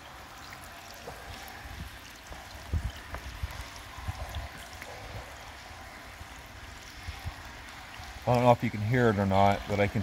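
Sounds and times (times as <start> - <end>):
rainwater splashing onto gravel: 0.0 - 10.0
water dripping into tank: 0.0 - 10.0.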